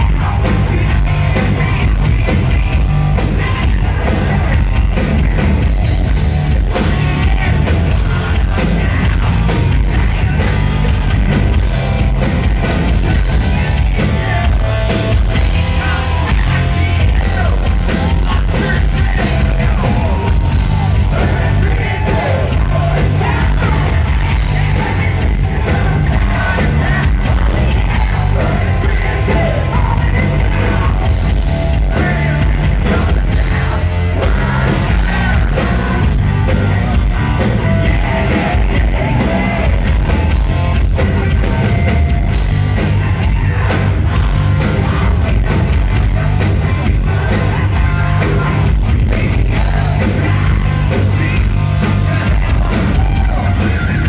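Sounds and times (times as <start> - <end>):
hard rock band playing live: 0.0 - 54.0
person singing lead vocals: 0.0 - 54.0.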